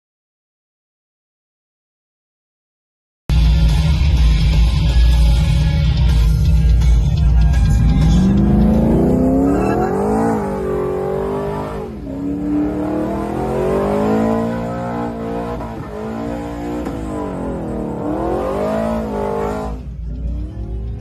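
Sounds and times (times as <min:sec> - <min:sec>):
truck engine accelerating: 0:03.3 - 0:21.0.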